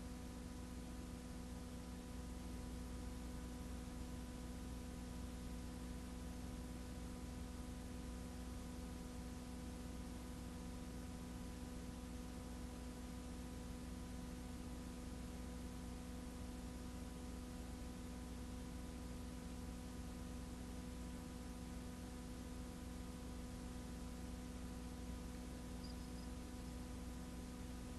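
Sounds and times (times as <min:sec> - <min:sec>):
steady hum with fixed tones: 0:00.0 - 0:27.9.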